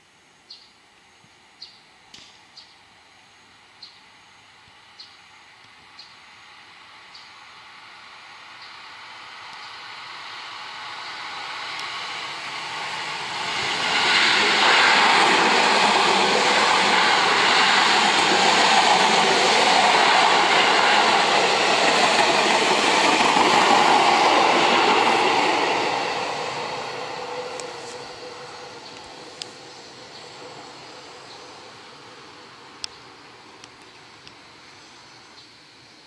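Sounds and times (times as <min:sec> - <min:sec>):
electric trains passing: 0:02.8 - 0:36.0.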